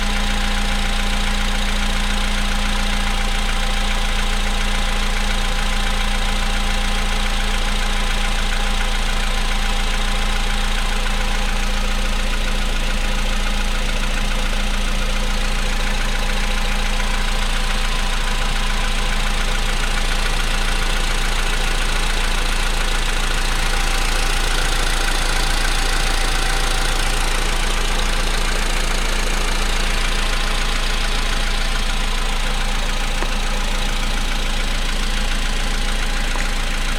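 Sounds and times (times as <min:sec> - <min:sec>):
car engine idling with knocking: 0:00.0 - 0:36.9.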